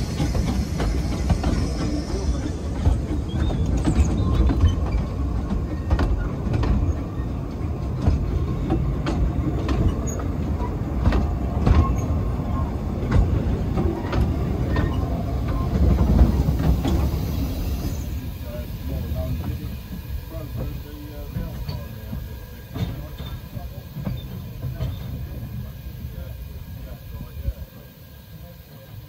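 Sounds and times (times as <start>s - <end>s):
wheels clicking over rail joints: 0.0s - 26.6s
train wheels rumbling on track: 0.0s - 29.0s.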